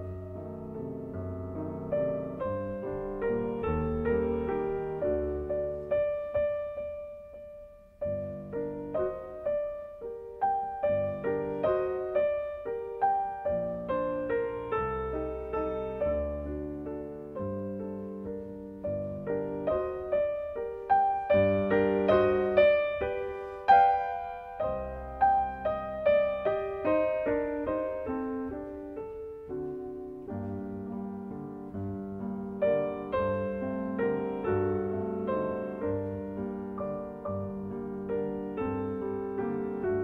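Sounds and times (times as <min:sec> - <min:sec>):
solo piano melody: 0:00.0 - 0:40.0.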